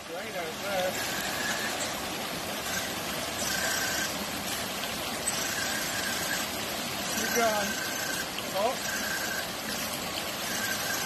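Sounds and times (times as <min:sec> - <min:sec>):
stream water rushing over rocks: 0:00.0 - 0:11.0
electric motor whine: 0:00.5 - 0:04.7, 0:05.3 - 0:11.0.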